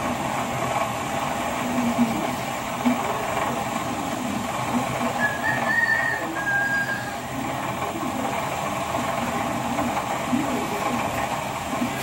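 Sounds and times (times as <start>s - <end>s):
water pump running: 0.0s - 12.0s.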